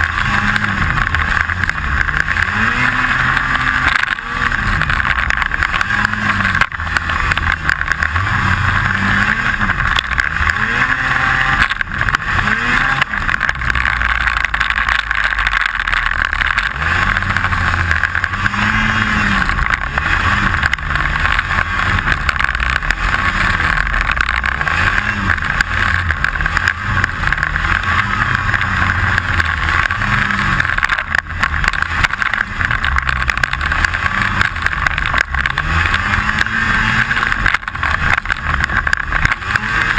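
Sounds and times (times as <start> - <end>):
constant rattle: 0.0 - 39.9
snowmobile engine revving: 0.0 - 39.9.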